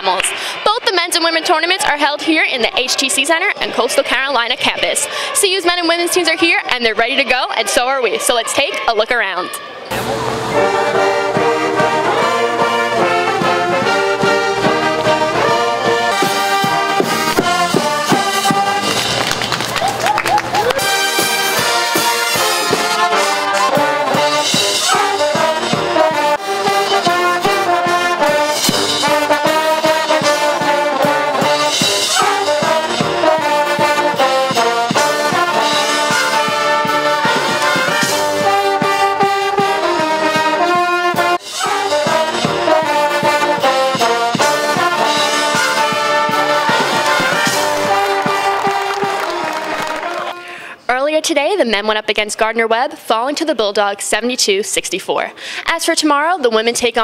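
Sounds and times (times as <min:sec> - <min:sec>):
lively brass music: 0:00.0 - 0:50.9.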